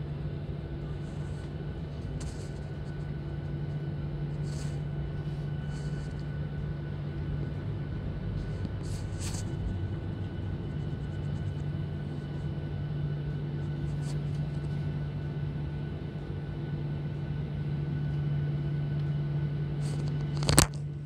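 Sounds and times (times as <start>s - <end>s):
jet engine hum in cabin: 0.0s - 21.0s.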